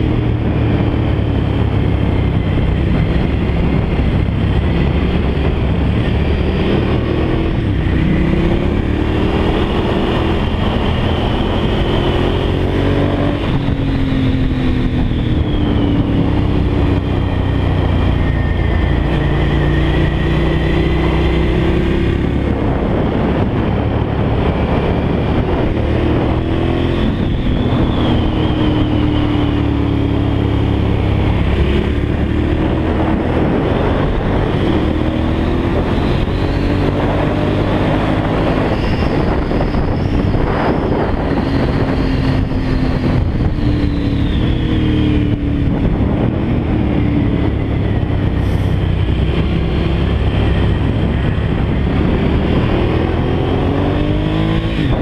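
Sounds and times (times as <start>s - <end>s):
motorcycle engine at speed: 0.0s - 55.0s
wind rushing on microphone: 0.0s - 55.0s.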